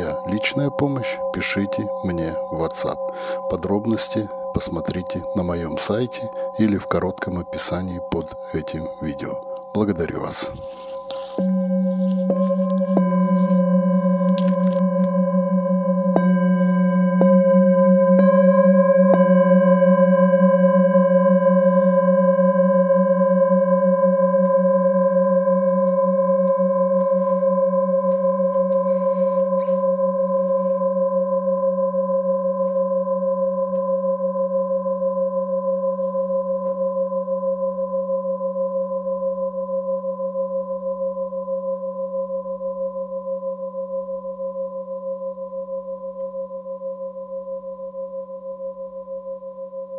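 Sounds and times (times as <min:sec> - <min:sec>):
singing bowls ringing: 0:00.0 - 0:49.9.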